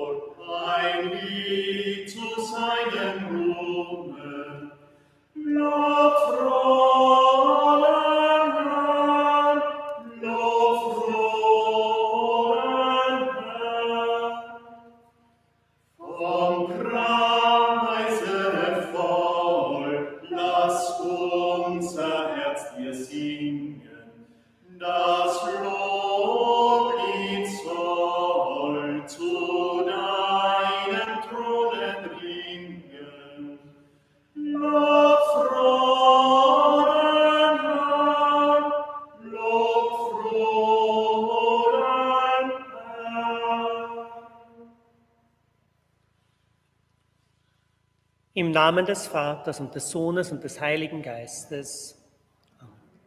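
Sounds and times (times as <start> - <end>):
group singing a hymn: 0.0 - 15.0, 15.9 - 44.8.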